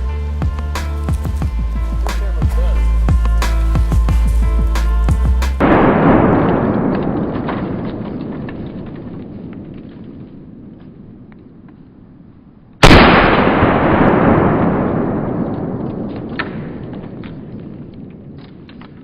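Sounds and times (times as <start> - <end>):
loud blast with rolling echo: 0.0 - 11.7, 12.8 - 18.4.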